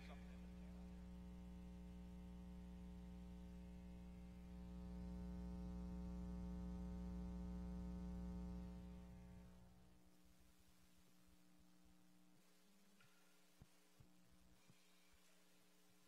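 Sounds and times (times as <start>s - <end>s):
electrical mains hum and buzz: 0.0s - 16.0s.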